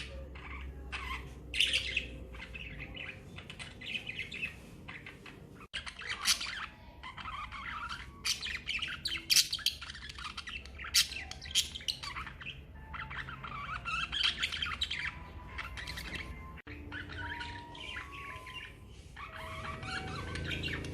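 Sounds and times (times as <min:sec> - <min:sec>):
budgerigars chirping and chattering: 0:00.0 - 0:20.9
sharp bird calls: 0:00.0 - 0:20.9.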